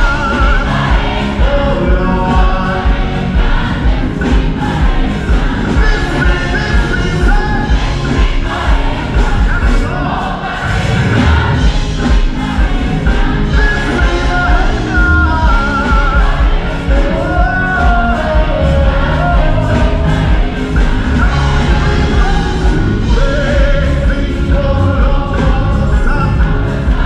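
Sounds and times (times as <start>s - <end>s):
children's choir singing gospel: 0.0s - 27.0s
lead voice singing with vibrato: 0.0s - 27.0s
live band with heavy bass: 0.0s - 27.0s.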